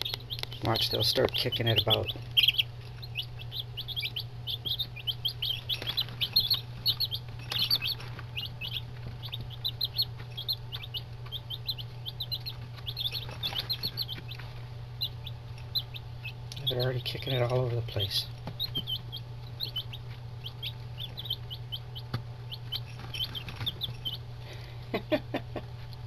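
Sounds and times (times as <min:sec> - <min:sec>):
chicks peeping: 0:00.0 - 0:26.0
steady low hum: 0:00.0 - 0:26.0.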